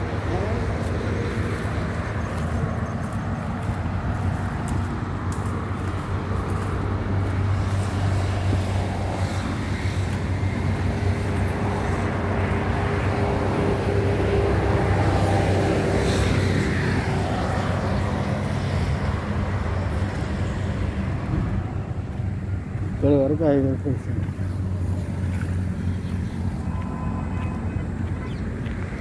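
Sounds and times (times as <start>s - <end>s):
highway traffic rumble: 0.0s - 29.0s.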